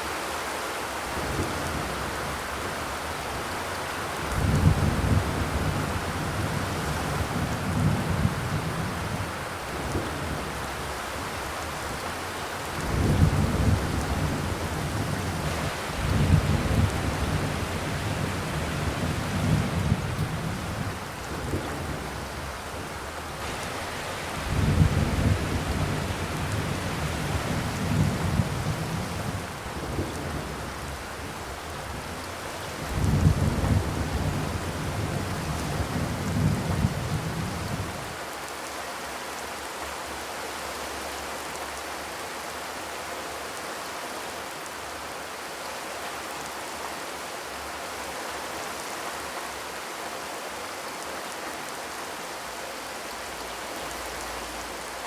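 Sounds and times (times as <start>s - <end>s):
rain on a metal roof: 0.0s - 55.0s.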